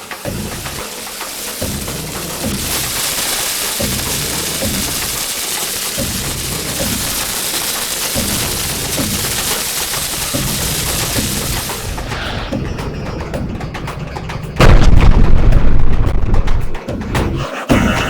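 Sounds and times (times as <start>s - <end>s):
distorted music harsh hiss: 0.0s - 15.6s.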